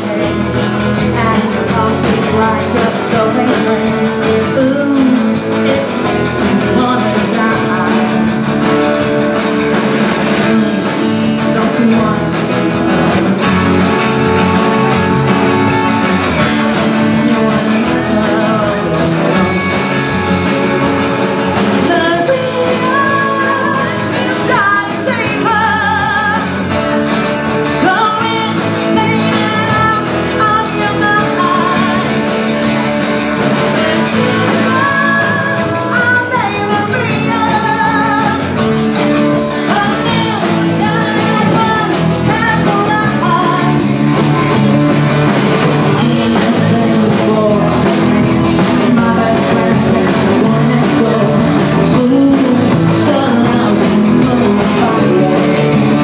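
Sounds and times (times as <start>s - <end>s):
drum kit: 0.0s - 56.0s
electric bass: 0.0s - 56.0s
electric guitars: 0.0s - 56.0s
woman singing: 0.0s - 56.0s.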